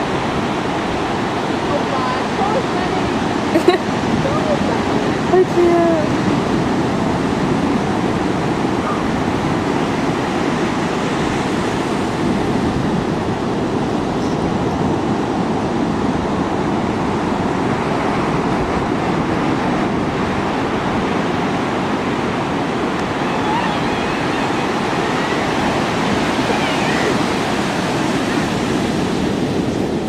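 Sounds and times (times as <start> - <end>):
ocean surf: 0.0 - 30.0
wind: 0.0 - 30.0.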